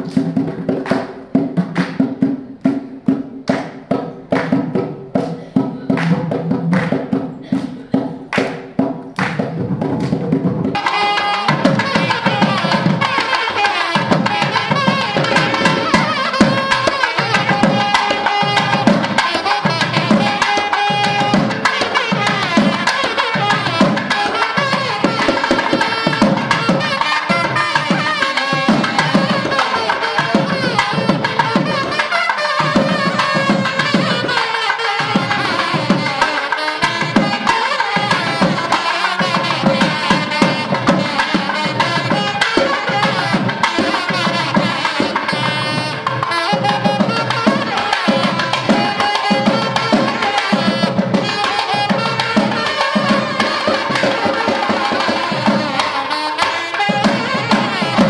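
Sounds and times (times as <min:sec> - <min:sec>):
barrel drums: 0:00.0 - 0:58.0
high held melody: 0:10.7 - 0:58.0.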